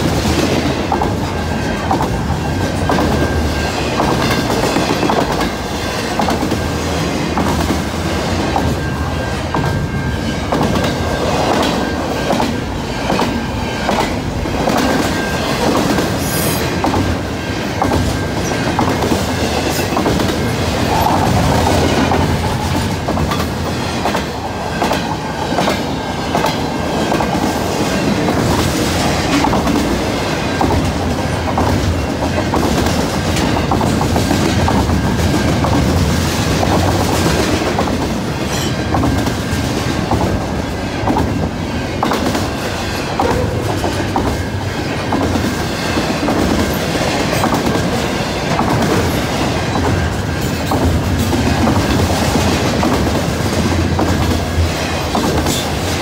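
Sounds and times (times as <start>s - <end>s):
freight train rolling past: 0.0s - 56.0s
wheels clicking over rail joints: 0.2s - 56.0s.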